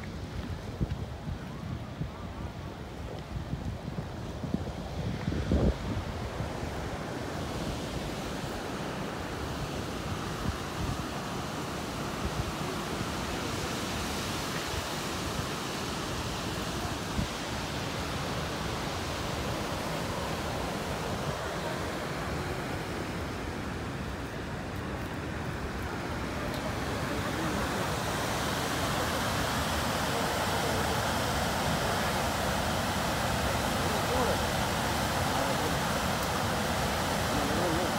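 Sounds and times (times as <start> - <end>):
open water rushing: 0.0 - 37.9
wind: 0.0 - 37.9
waterfall rushing: 6.0 - 37.9.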